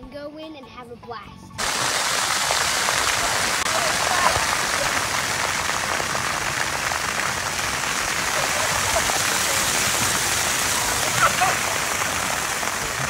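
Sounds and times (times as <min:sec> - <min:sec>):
fountain water splashing: 0:01.6 - 0:13.0.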